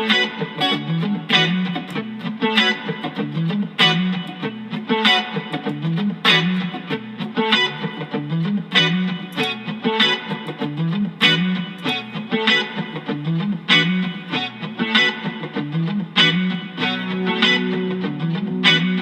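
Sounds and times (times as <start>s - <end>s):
electric guitar funk riff: 0.0s - 19.0s.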